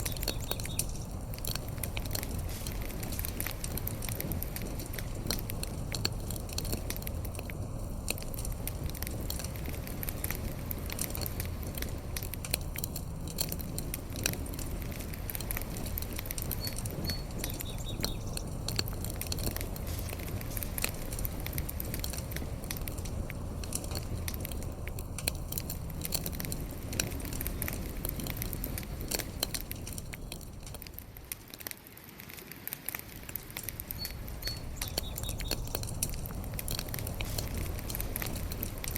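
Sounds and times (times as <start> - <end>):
fire crackling: 0.0 - 38.9
low rumble of flames: 0.0 - 38.9.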